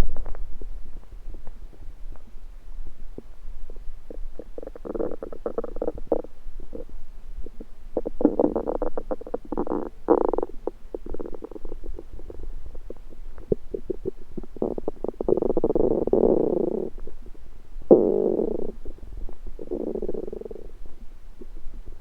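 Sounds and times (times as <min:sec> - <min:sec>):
stomach gurgling and rumbling: 0:00.0 - 0:22.0.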